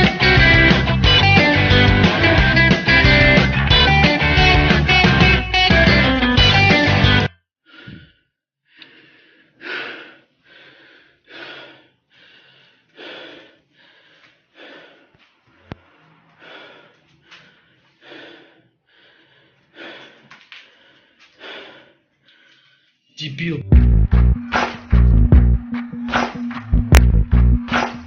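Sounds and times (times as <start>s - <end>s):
heavy rhythmic breathing: 0.0s - 5.3s, 6.0s - 28.0s.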